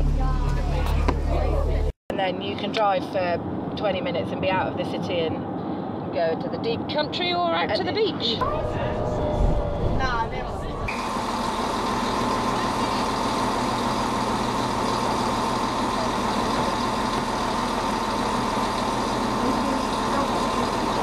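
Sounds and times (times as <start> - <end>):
train engine humming: 0.0 - 21.0.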